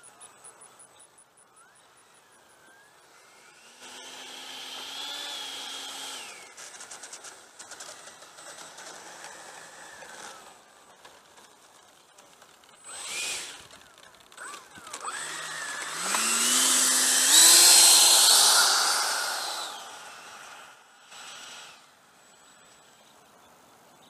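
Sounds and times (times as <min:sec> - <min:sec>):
electric ducted fan whine: 0:00.0 - 0:23.9.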